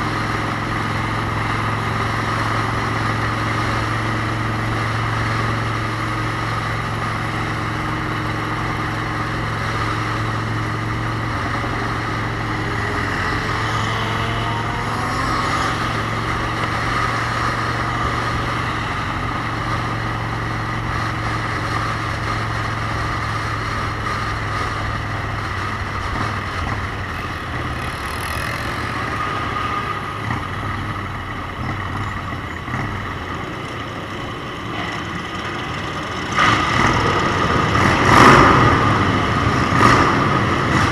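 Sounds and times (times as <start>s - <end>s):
motorcycle engine: 0.0s - 40.9s
road and wind noise: 0.0s - 40.9s.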